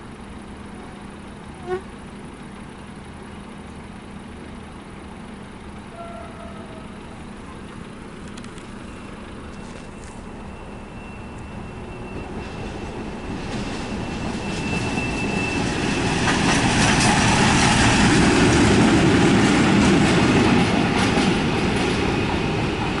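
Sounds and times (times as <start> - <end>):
train rumble and wheel noise: 0.0 - 23.0.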